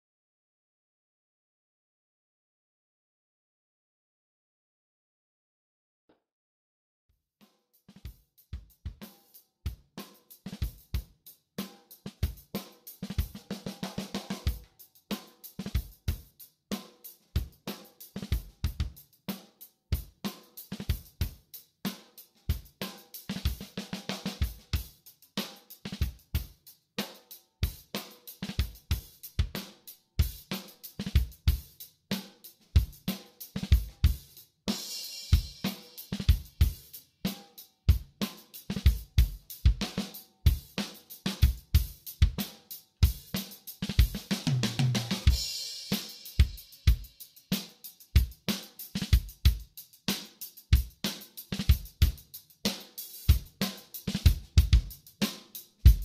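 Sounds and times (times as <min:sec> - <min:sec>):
drum kit playing: 0:07.7 - 0:56.0.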